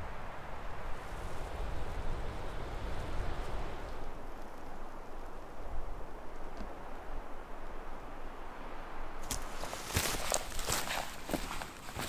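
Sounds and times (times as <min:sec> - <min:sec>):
strong wind on microphone: 0:00.0 - 0:09.7.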